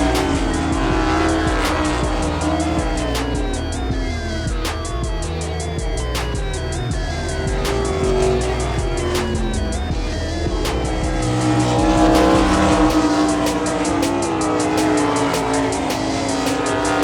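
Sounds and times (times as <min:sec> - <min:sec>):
background music with steady beat: 0:00.0 - 0:17.0
race car engines: 0:00.0 - 0:17.0.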